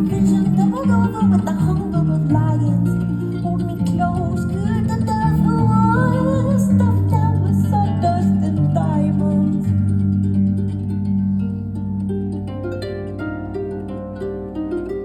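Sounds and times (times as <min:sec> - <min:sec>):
harp playing: 0:00.0 - 0:15.0.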